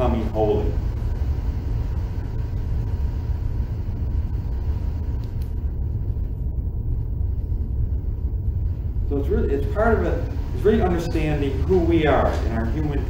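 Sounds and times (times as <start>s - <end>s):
faint high hum: 0.0s - 13.0s
low room rumble: 0.0s - 13.0s.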